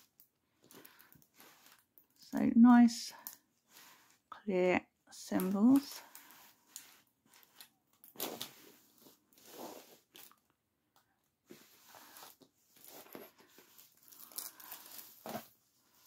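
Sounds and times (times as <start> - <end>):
plastic film rustling and crinkling: 0.0 - 4.3, 5.3 - 10.5, 11.5 - 16.0.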